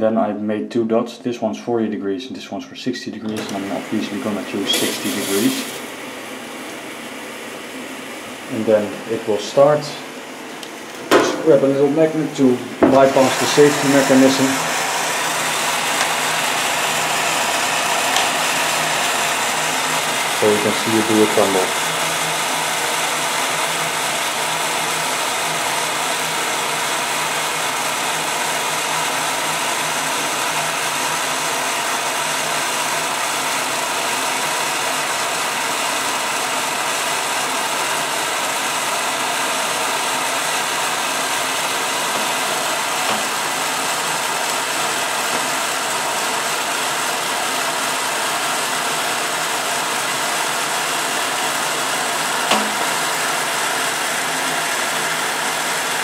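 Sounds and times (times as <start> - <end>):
washing machine running: 3.3 - 56.0.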